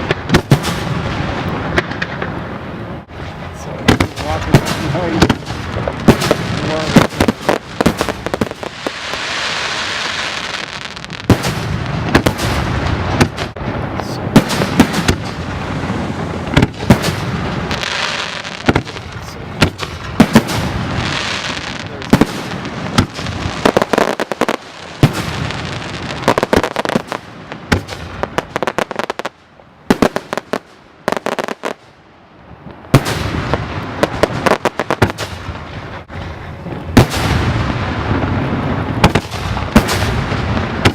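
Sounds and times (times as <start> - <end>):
fireworks bursting: 0.0 - 32.0, 32.7 - 40.9
fireworks crackling and hissing: 0.0 - 40.9.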